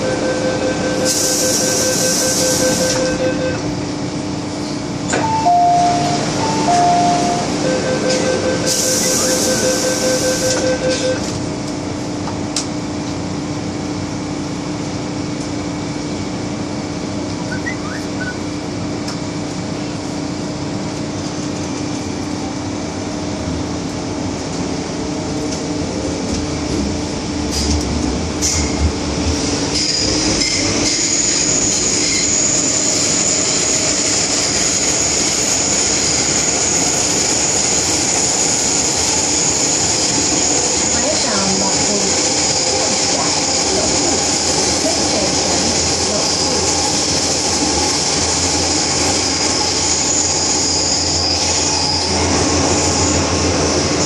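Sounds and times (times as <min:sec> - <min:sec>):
train rumble and hum: 0:00.0 - 0:54.0.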